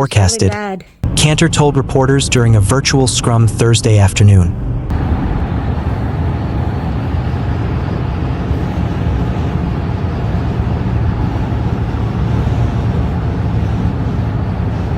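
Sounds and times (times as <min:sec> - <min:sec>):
vehicle driving rumble: 0:01.0 - 0:14.9.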